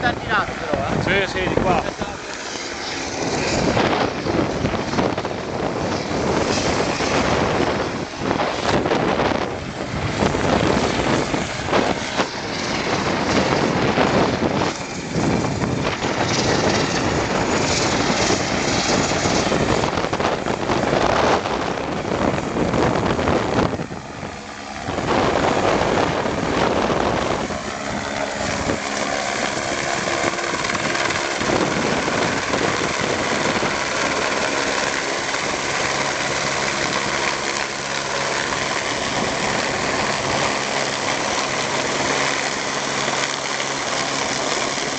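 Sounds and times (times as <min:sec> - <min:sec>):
aircraft engine drone: 0:00.0 - 0:44.9
wind noise on microphone: 0:00.0 - 0:44.9.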